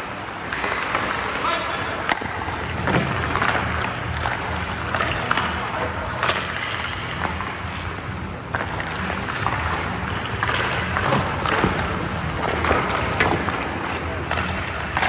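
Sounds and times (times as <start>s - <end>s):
skates scraping on ice: 0.0s - 15.0s.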